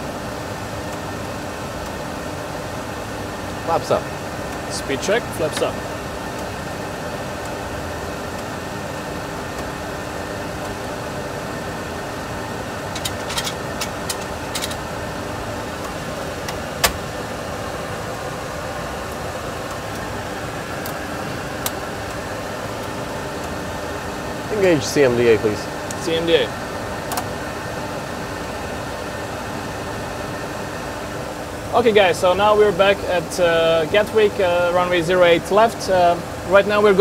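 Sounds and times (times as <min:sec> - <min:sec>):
cockpit noise rush and hum: 0:00.1 - 0:37.0.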